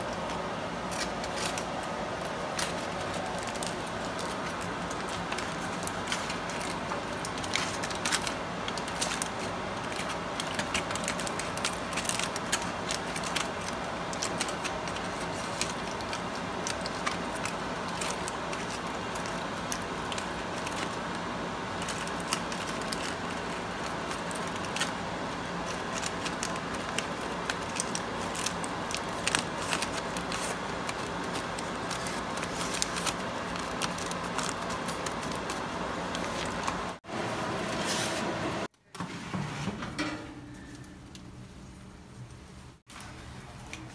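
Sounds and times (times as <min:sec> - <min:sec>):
aluminium foil crinkling: 0:00.0 - 0:37.0
steady background hum: 0:00.0 - 0:43.9.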